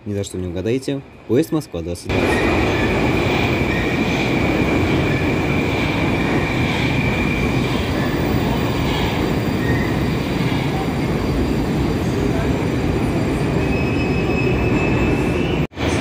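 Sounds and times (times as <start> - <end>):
train wheels rumbling on rails: 2.1 - 16.0.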